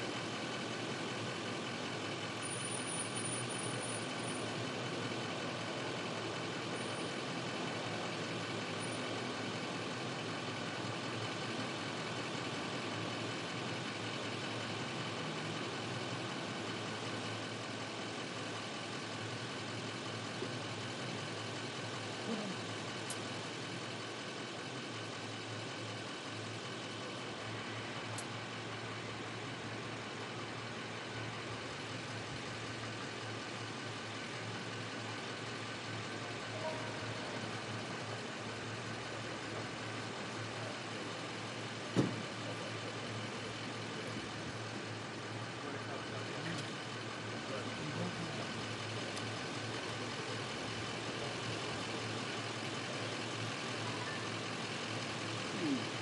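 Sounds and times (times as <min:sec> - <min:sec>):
vehicle engines idling: 0:00.0 - 0:56.0.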